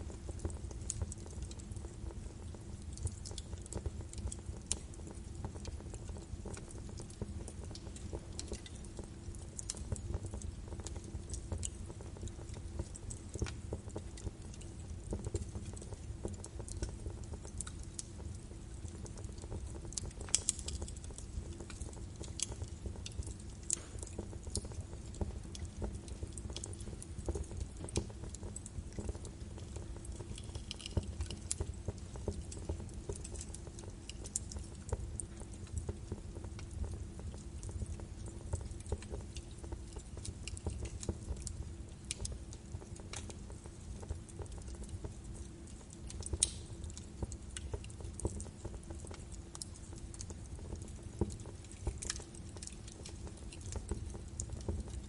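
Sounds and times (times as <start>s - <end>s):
fire crackling and popping: 0.0s - 55.0s
rumble of fire flames: 0.0s - 55.0s.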